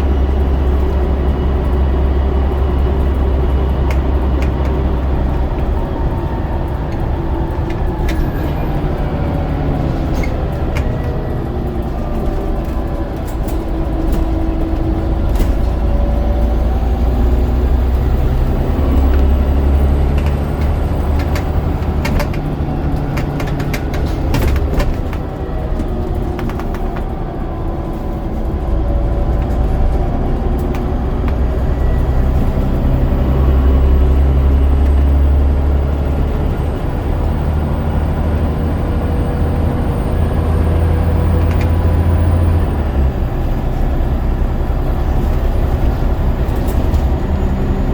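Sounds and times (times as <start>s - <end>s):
bus diesel engine drone: 0.0s - 47.9s.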